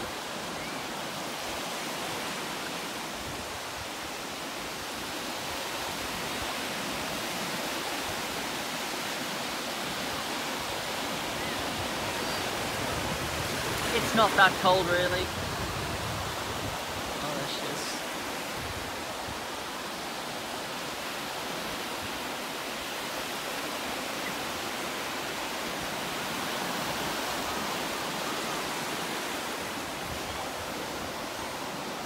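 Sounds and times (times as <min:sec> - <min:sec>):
small waves breaking: 0:00.0 - 0:32.0.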